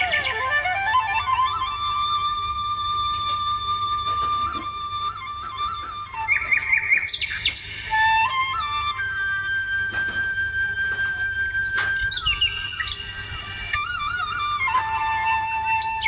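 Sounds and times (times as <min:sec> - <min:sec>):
flute melody: 0:00.0 - 0:16.0.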